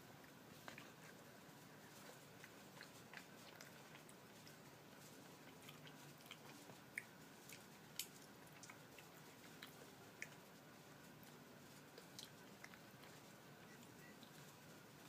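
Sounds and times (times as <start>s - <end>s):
faint chewing of food: 0.0s - 15.0s.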